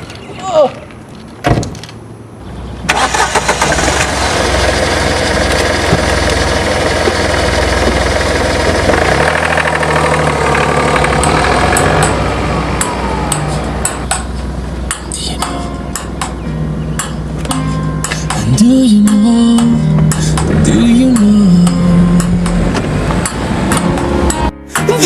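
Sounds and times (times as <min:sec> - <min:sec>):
car engine starting and running: 0:02.3 - 0:25.0.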